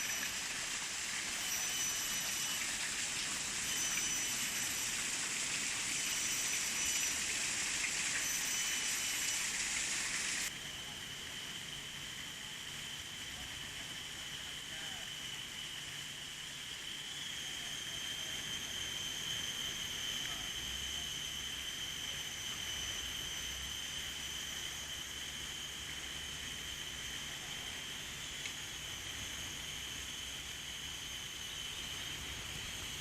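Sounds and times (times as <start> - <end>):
steady hiss: 0.0 - 18.5, 19.6 - 33.0
insects droning: 0.0 - 33.0.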